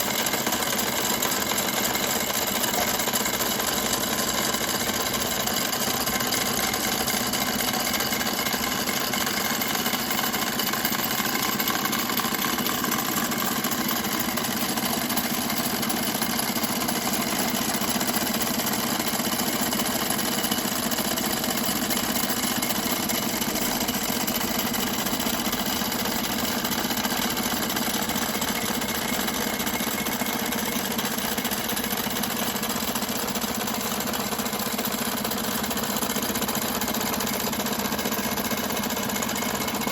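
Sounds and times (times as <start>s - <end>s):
model machinery whirring and clattering: 0.0s - 39.9s.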